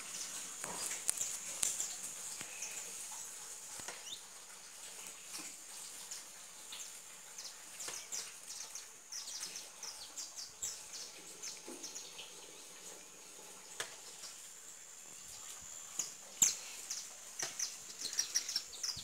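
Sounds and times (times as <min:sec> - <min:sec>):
small birds chirping: 0:00.0 - 0:04.3, 0:06.7 - 0:19.0.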